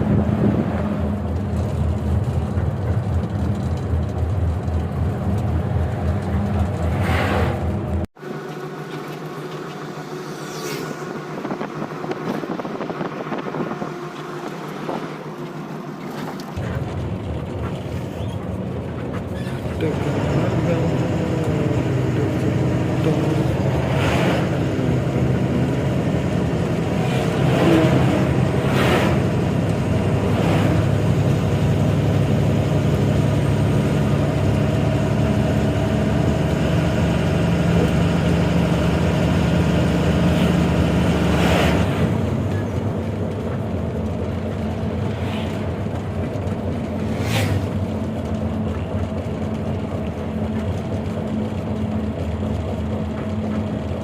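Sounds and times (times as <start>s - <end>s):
lorry diesel engine running: 0.0s - 54.0s.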